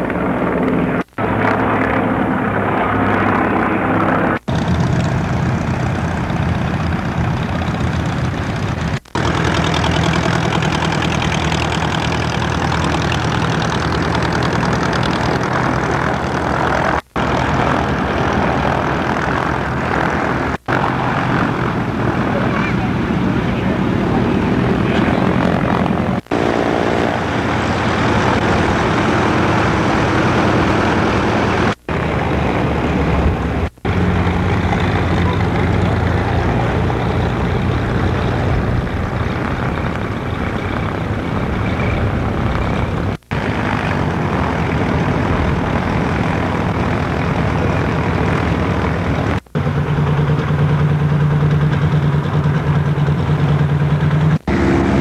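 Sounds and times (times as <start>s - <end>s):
propeller aircraft engines droning: 0.0s - 55.0s.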